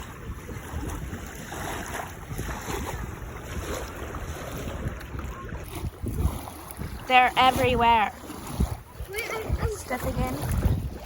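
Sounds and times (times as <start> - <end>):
waves washing on shore: 0.0 - 11.0
wind buffeting microphone: 0.0 - 11.0.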